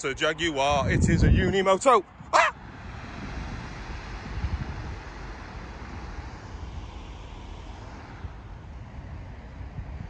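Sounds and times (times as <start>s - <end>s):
distant road traffic: 0.0s - 10.0s
wind on microphone: 0.4s - 10.0s.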